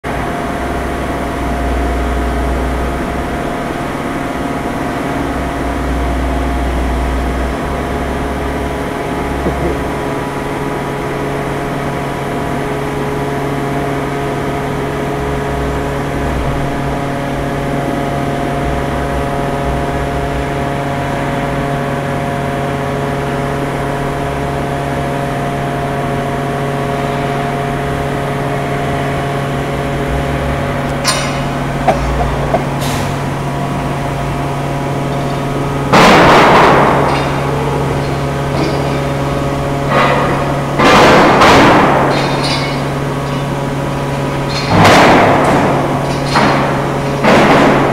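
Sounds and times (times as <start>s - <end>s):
forklift engine rumble: 0.0s - 47.9s
industrial machinery drone: 0.0s - 47.9s.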